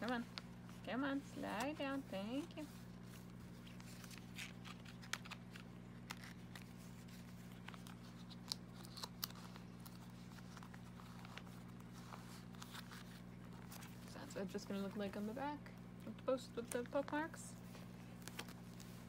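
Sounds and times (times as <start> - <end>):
plastic sleeves rustling: 0.0 - 19.0
steady low hum: 0.0 - 19.0.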